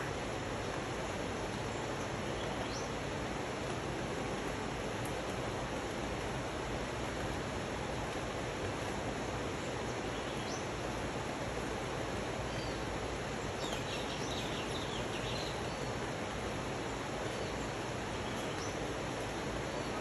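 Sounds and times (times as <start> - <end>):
rain on foliage: 0.0 - 20.0
rushing river: 0.0 - 20.0.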